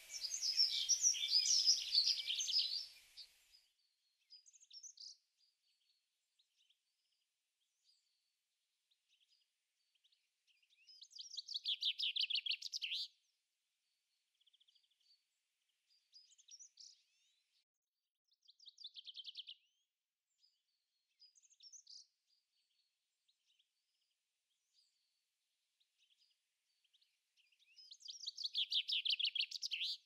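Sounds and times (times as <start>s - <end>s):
songbirds singing: 0.0s - 8.3s, 8.9s - 17.7s, 18.3s - 25.2s, 25.8s - 30.0s.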